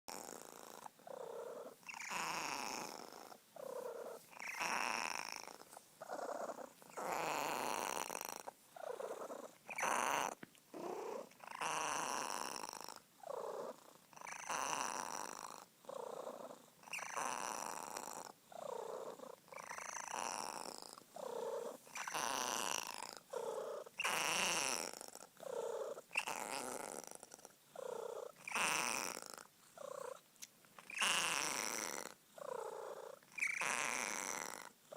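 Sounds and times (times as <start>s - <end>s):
cat purring: 0.1s - 34.9s.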